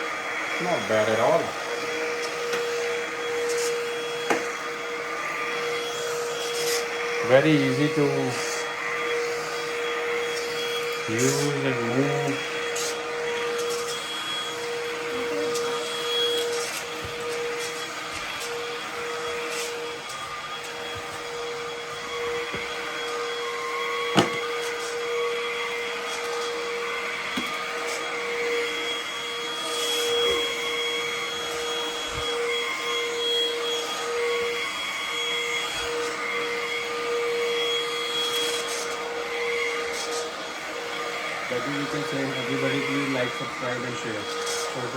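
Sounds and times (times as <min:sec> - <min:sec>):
stick vacuum motor whine: 0:00.0 - 0:44.9.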